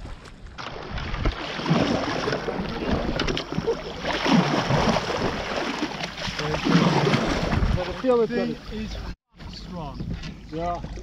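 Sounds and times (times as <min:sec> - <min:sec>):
water splashing against kayak: 0:00.0 - 0:09.1.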